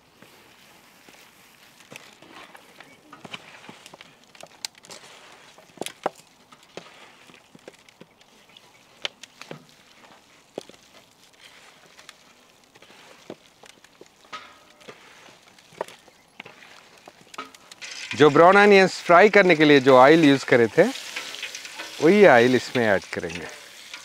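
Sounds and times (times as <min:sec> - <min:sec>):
fried onions crackling in a pan: 0:01.1 - 0:24.0.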